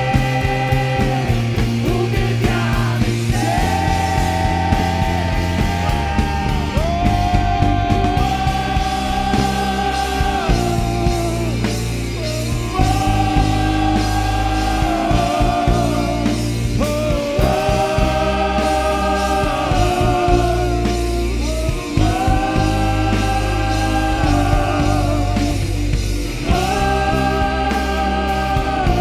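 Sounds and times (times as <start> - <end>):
rock worship band with singing: 0.0 - 29.0.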